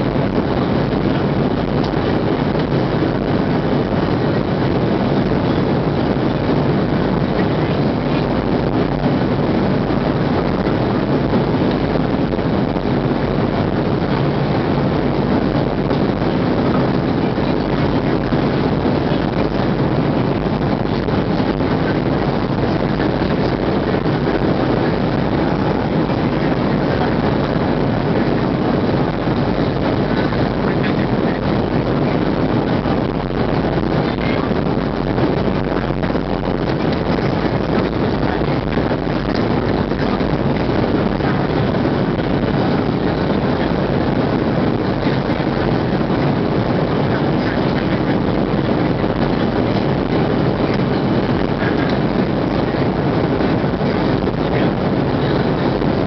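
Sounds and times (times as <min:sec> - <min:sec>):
jet engines droning: 0:00.0 - 0:56.0
rushing airflow: 0:00.0 - 0:56.0.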